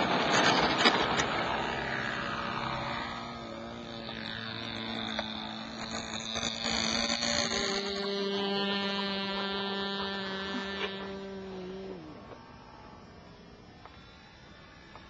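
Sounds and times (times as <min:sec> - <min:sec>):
high whine: 0:00.0 - 0:15.0
model plane electric motor: 0:00.0 - 0:15.0.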